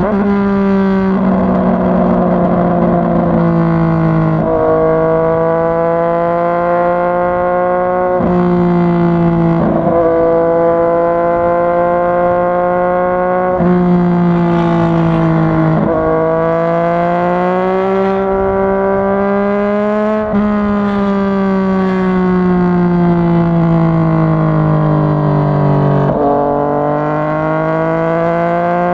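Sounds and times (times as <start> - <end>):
motorcycle engine accelerating: 0.0 - 28.9.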